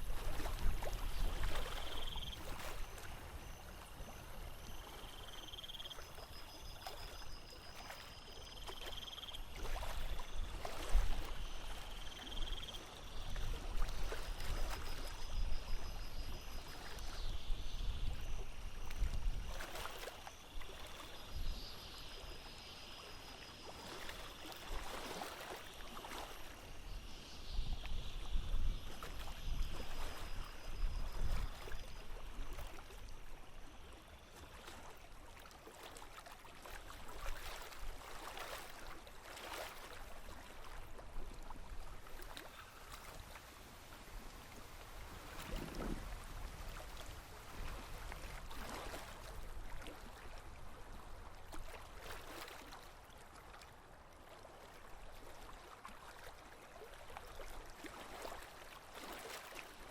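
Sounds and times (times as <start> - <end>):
water lapping and splashing: 0.0 - 59.9.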